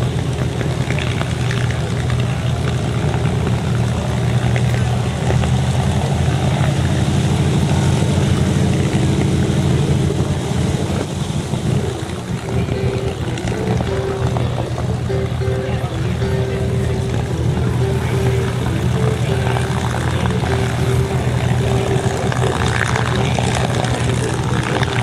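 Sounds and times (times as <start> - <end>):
propeller aircraft engines idling: 0.0 - 25.0.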